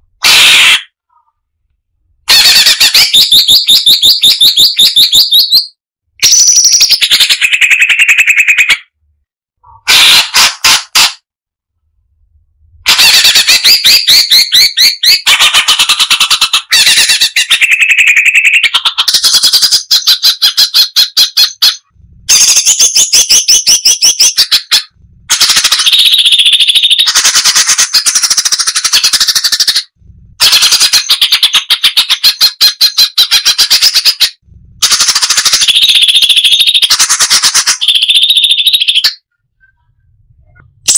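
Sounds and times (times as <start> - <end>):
bird chattering song: 2.3 - 8.9, 12.9 - 39.9.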